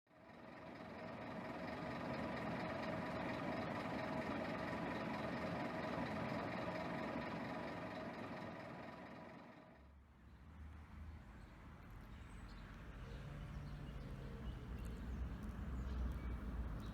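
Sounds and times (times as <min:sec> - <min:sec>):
diesel bus engine humming: 0:00.1 - 0:09.9, 0:11.5 - 0:16.9.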